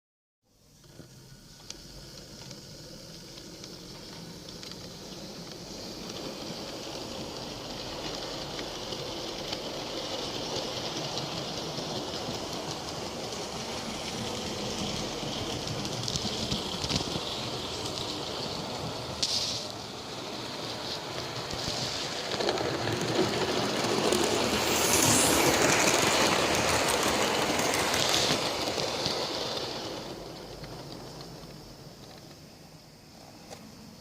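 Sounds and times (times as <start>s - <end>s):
model train running hiss: 0.5s - 34.0s
train wheels clicking: 0.8s - 34.0s.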